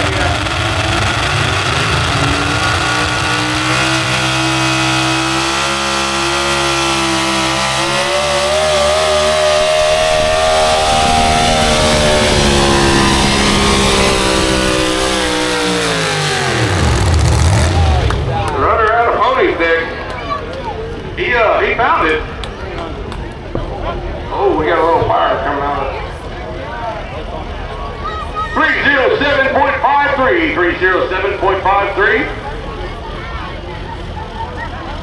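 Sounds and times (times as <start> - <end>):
truck engine at full throttle: 0.0 - 35.0.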